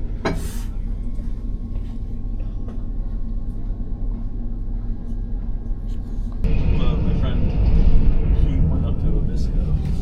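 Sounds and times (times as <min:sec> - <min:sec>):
faint whine: 0:00.0 - 0:10.0
train rumbling: 0:00.0 - 0:10.0.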